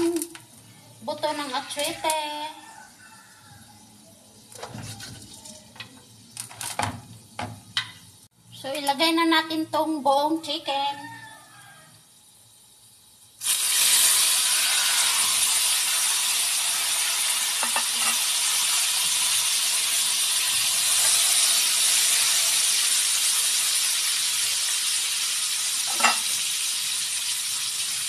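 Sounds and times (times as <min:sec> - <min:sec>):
chicken sizzling in oil: 0:00.0 - 0:08.3, 0:10.2 - 0:28.0.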